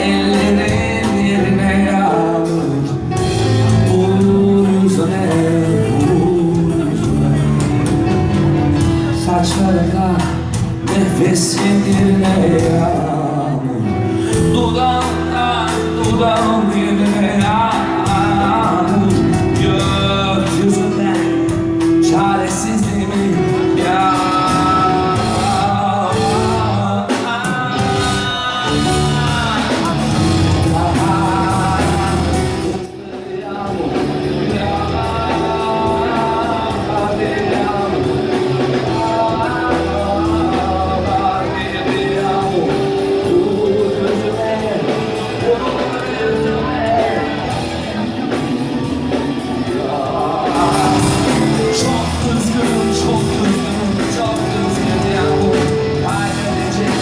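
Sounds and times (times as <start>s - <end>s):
guitar lead melody: 0.0s - 57.0s
instrumental rock ballad: 0.0s - 57.0s.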